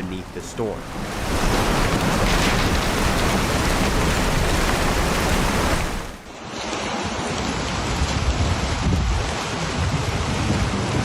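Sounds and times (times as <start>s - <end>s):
heavy rain: 0.0s - 11.0s
wind: 0.0s - 11.0s.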